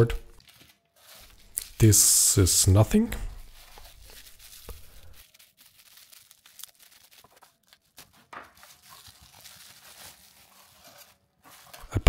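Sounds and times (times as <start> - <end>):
bubble wrap crinkling: 0.3 - 12.0.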